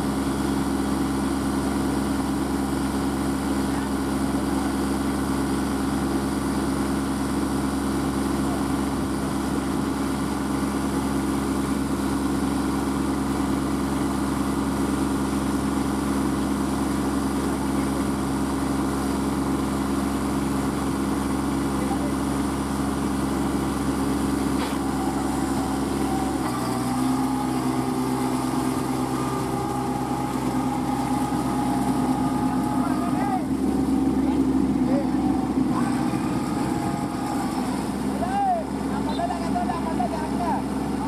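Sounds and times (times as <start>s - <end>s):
tractor diesel engines running: 0.0s - 41.0s.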